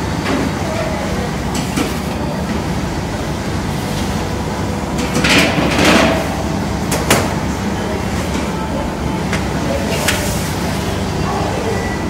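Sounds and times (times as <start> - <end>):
bakery equipment drone: 0.0 - 12.0.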